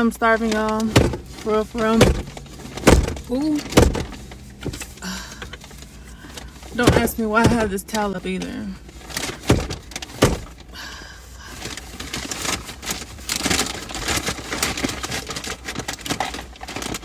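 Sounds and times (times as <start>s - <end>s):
paper bag crinkling: 0.0s - 17.0s.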